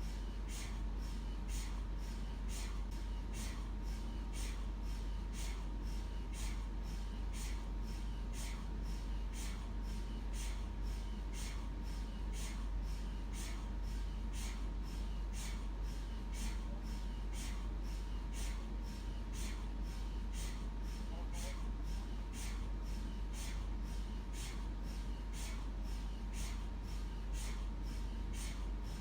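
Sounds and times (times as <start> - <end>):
mri gradient coils knocking: 0.0 - 29.0
steady low hum: 0.0 - 29.0.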